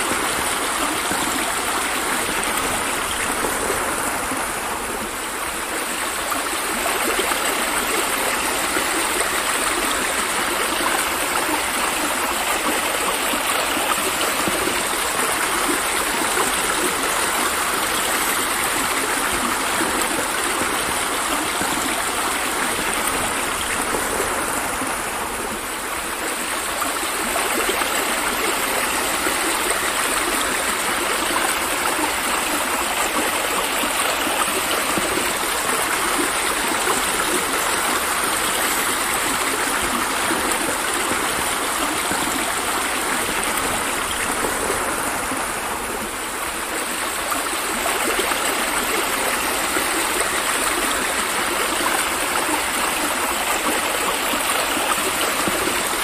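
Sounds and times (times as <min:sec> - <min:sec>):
rain falling on river: 0:00.0 - 0:56.0.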